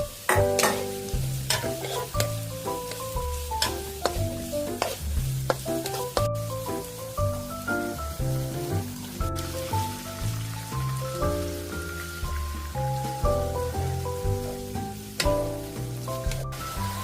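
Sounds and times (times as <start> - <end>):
background music with plucked melody: 0.0 - 17.0
rice sizzling in a frying pan: 0.0 - 17.0.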